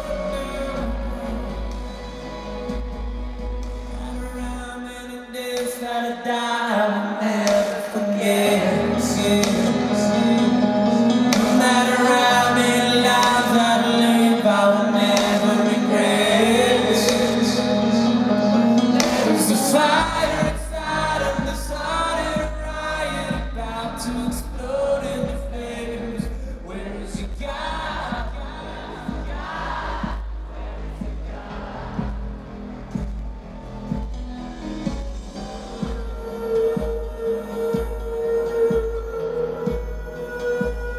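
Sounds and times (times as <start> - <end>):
live rock band music: 0.0 - 4.7, 8.4 - 40.9
person singing: 0.0 - 40.9.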